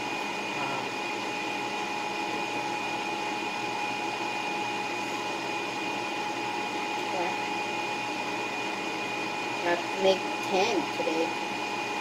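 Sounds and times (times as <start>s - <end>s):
motor or fan whirring: 0.0s - 12.0s.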